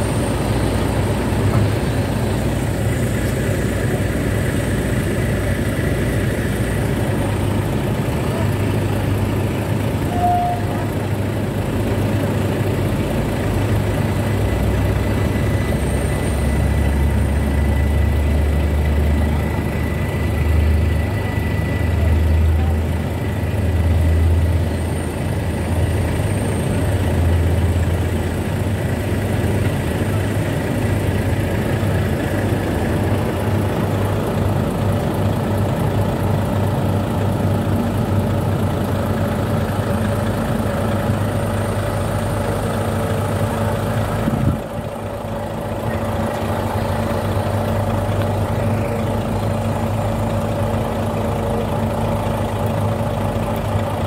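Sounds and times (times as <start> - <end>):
train diesel engine idling: 0.0 - 54.0.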